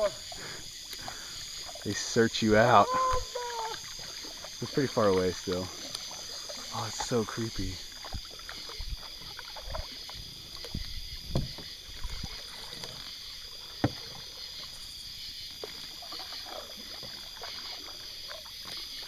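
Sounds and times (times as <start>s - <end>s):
canoe paddle strokes in water: 0.0s - 19.0s.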